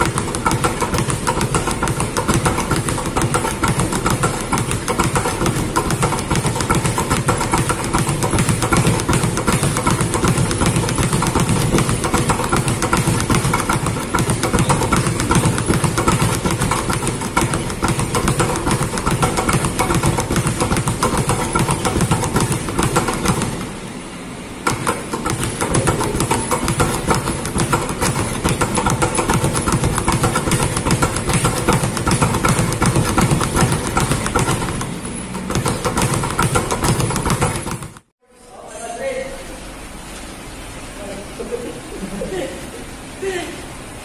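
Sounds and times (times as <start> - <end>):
speed bag rattling: 0.0 - 23.8, 24.7 - 38.1.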